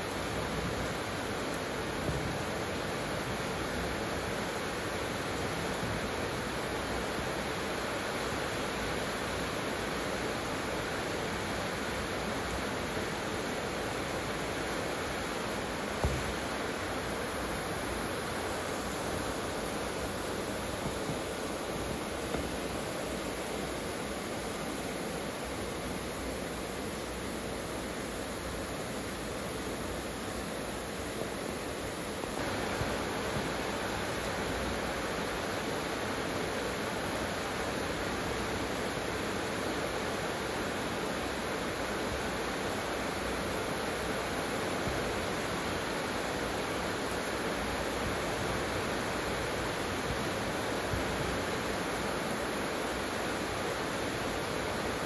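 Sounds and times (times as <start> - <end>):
heavy rain on roof tiles: 0.0 - 55.0.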